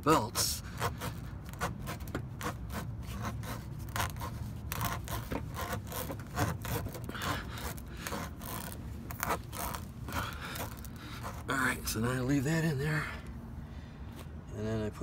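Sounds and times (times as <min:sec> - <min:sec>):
rasp tool scraping tire rubber: 0:00.1 - 0:12.4.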